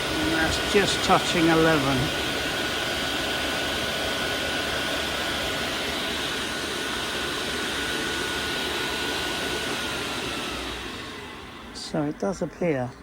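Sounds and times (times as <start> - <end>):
blower motors whining: 0.0 - 13.0.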